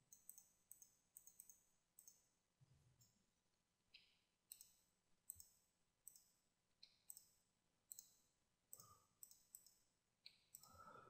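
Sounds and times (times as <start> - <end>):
computer mouse and keyboard clicking: 0.1 - 2.2, 4.0 - 10.8.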